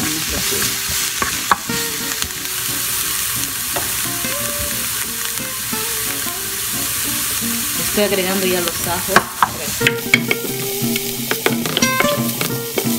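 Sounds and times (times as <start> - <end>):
onion sizzling in oil: 0.0 - 12.9.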